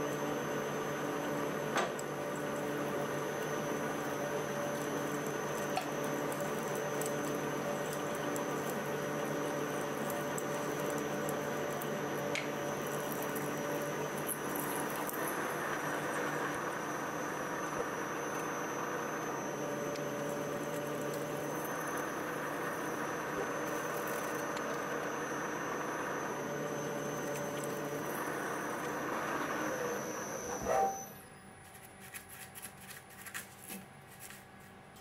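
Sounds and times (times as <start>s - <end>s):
high motor whine: 0.0s - 31.4s.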